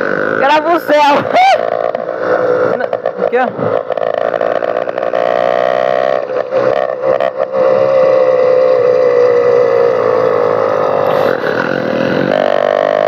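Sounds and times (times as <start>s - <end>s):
two-stroke engine buzzing: 0.0s - 13.0s.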